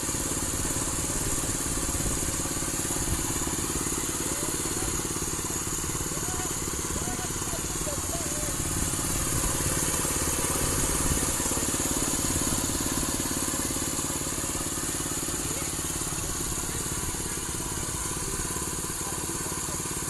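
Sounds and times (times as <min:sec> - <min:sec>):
small gasoline engine running: 0:00.0 - 0:20.0.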